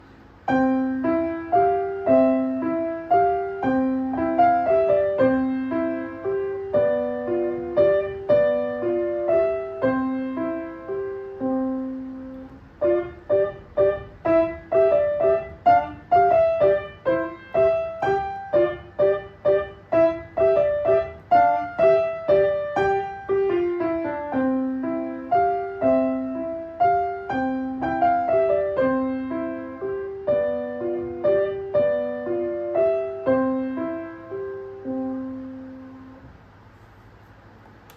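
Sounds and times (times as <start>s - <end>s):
solo piano melody: 0.0s - 36.6s.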